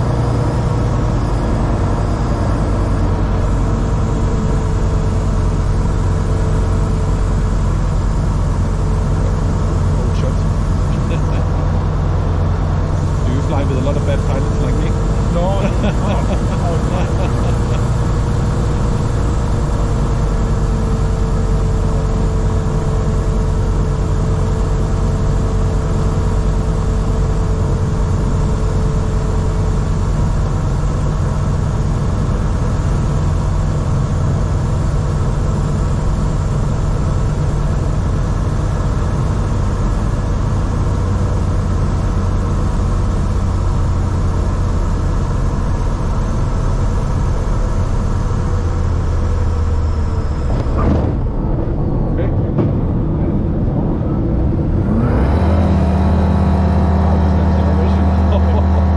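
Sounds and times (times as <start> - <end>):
faint steady whine: 0.0 - 55.0
aircraft engine and propeller drone: 0.0 - 58.9.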